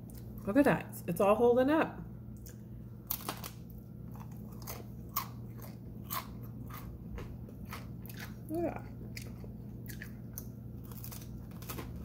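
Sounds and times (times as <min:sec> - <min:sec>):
crunchy food chewing: 0:02.3 - 0:12.0.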